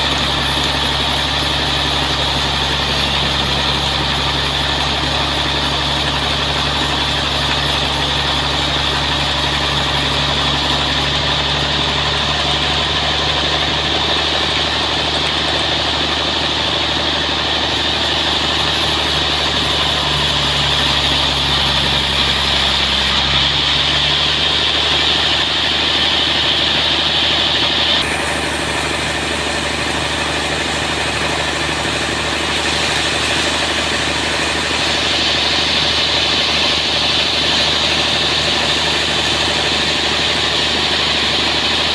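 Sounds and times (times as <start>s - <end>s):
engine drone: 0.0s - 41.9s
saw cutting log: 0.0s - 41.9s.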